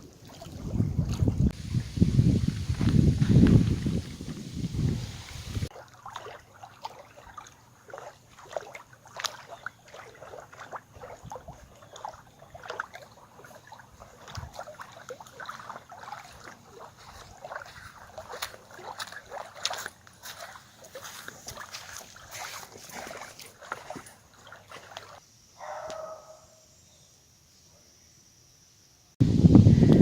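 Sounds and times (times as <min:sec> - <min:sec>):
water sloshing and splashing: 0:00.0 - 0:25.2.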